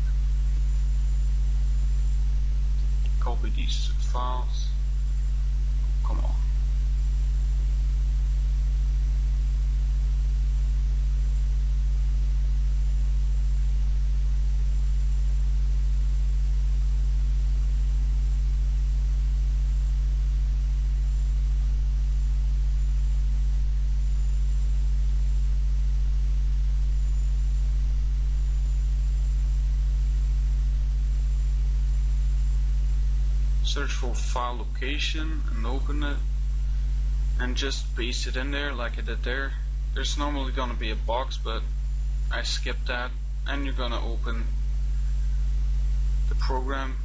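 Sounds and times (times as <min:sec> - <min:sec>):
low electrical hum with hiss: 0:00.0 - 0:47.0.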